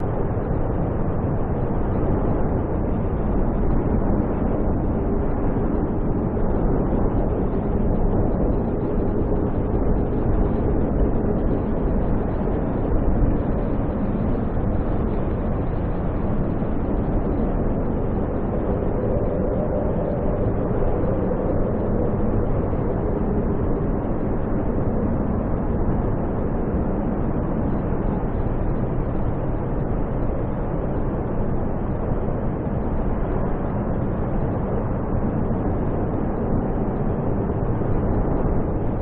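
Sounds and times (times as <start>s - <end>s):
strong wind rushing: 0.0s - 39.0s.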